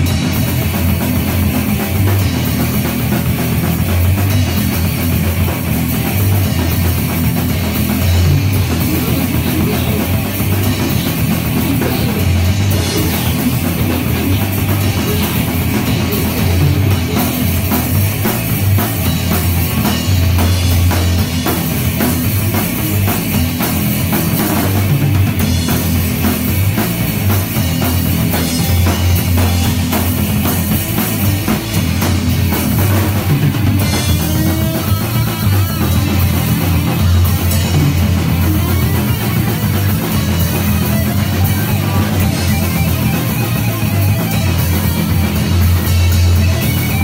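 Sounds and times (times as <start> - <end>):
distorted electric guitars: 0.0 - 47.0
drum kit fast beat: 0.0 - 47.0.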